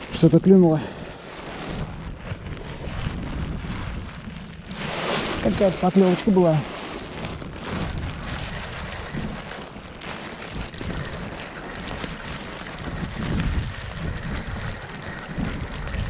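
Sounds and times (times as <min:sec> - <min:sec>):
gusty wind buffeting microphone: 0:00.0 - 0:16.0
rain hissing: 0:00.0 - 0:16.0.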